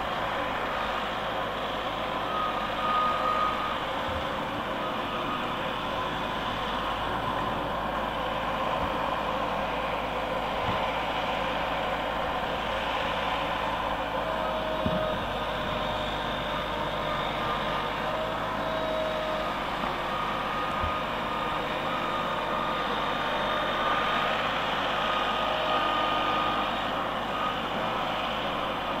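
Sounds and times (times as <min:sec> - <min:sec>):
heavy vehicle engine drone: 0:00.0 - 0:29.0.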